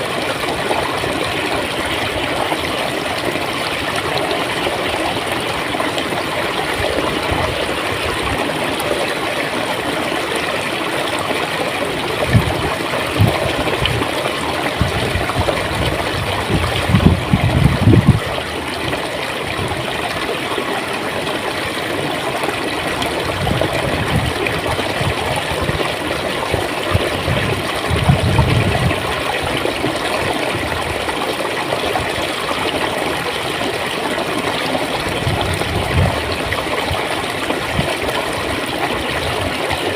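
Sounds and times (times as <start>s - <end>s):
deep water gulps: 0.0s - 39.9s
stream water gurgling: 0.0s - 39.9s.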